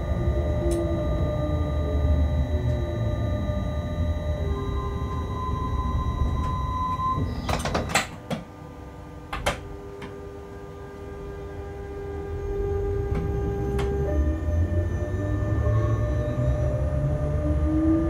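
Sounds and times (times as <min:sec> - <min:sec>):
locomotive rumble with electrical whine: 0:00.0 - 0:18.0.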